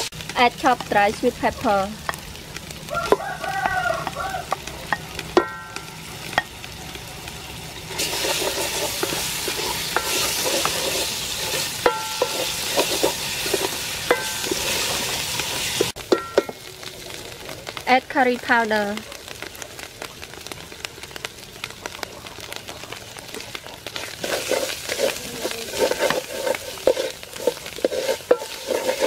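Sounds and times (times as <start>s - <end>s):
paste sizzling in oil: 0.0s - 29.0s.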